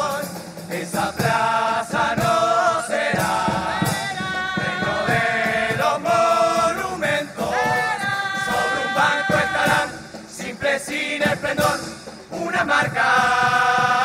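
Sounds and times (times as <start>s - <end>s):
chorus singing: 0.0s - 14.0s
drum and cymbal beats: 0.0s - 14.0s.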